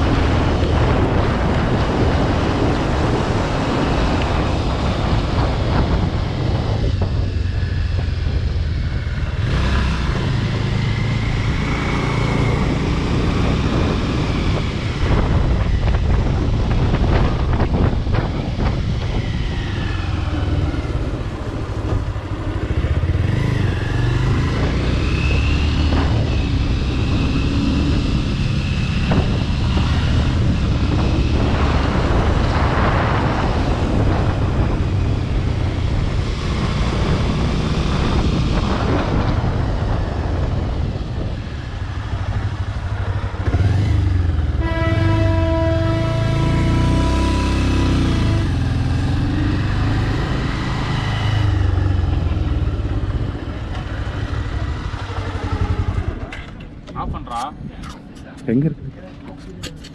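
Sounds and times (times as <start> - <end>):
motorcycle engine running: 0.0 - 57.1.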